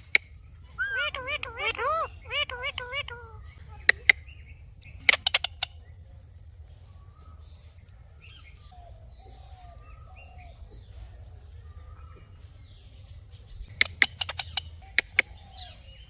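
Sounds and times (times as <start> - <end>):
birds chirping: 0.0 - 16.0
low background hum: 0.0 - 16.0.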